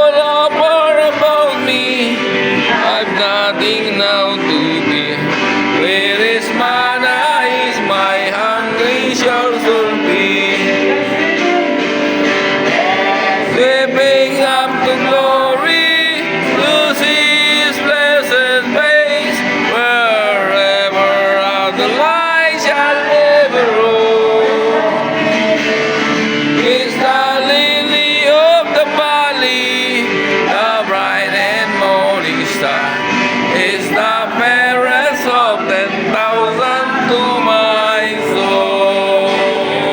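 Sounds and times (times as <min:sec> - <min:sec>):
strummed guitar: 0:00.0 - 0:39.9
voices singing a hymn: 0:00.0 - 0:39.9.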